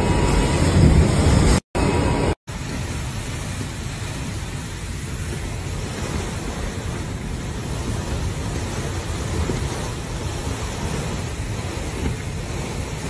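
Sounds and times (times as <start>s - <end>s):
wind buffeting microphone: 0.0s - 13.0s
wind driving heavy rain: 0.0s - 13.0s.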